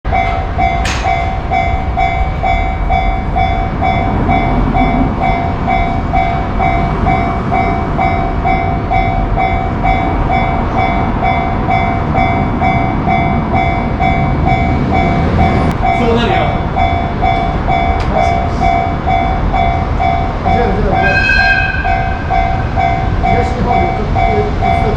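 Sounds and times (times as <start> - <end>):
level crossing bell ringing: 0.1 - 24.9
train passing: 0.1 - 24.9.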